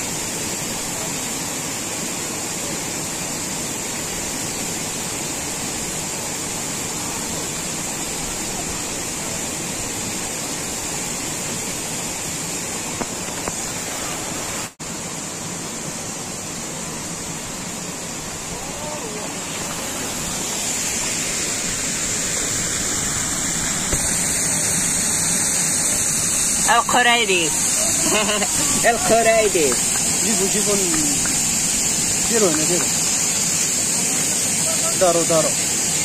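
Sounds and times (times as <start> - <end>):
steady rushing noise with hiss: 0.0 - 36.0.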